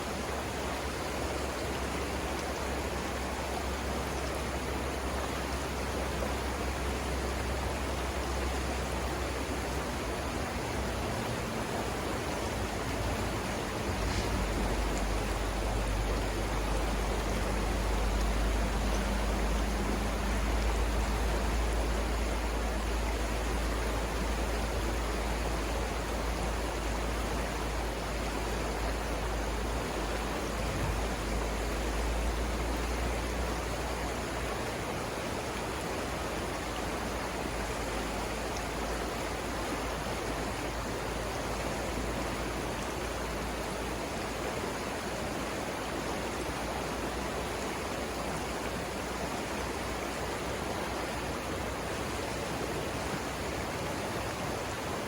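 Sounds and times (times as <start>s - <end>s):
water rushing over rapids: 0.0s - 55.0s.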